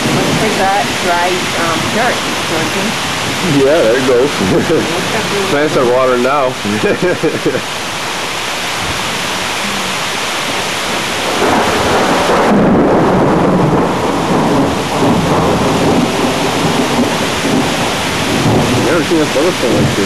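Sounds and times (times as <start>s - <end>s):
heavy rain falling: 0.0s - 20.0s
thunder rolling: 0.0s - 20.0s.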